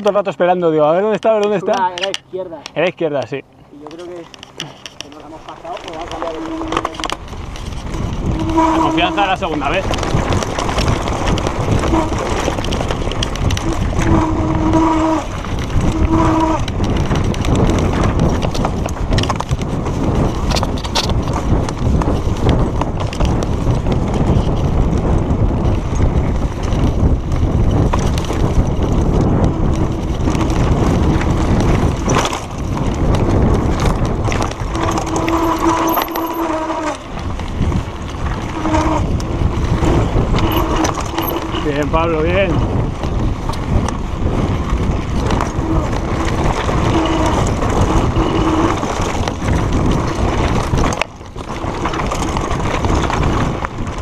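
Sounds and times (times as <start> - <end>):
bike knocking and rattling: 0.0 - 54.0
wind and tyre noise: 0.0 - 54.0
brakes squealing: 0.2 - 22.6, 27.7 - 54.0.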